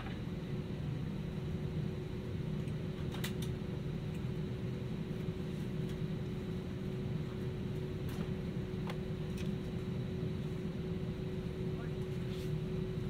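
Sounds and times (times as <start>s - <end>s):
aircraft cabin rumble: 0.0s - 13.0s
faint steady hum: 0.0s - 13.0s.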